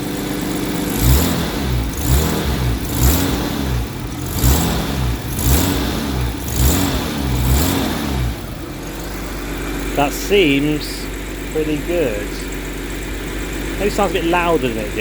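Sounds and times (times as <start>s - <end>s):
car engine idling: 0.0s - 15.0s
engine revving: 0.0s - 15.0s.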